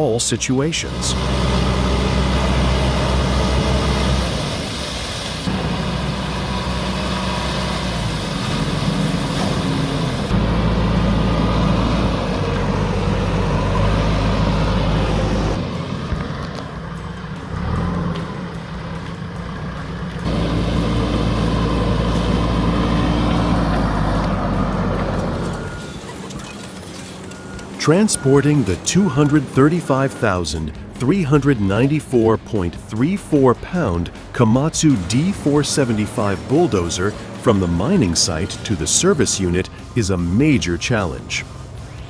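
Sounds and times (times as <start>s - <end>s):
diesel machinery engines running: 0.0s - 42.0s.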